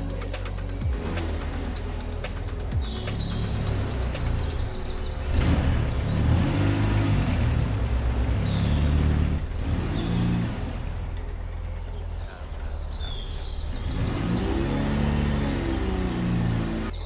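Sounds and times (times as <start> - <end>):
birds chirping faintly: 0.0 - 17.0
car engine revving: 0.0 - 17.0.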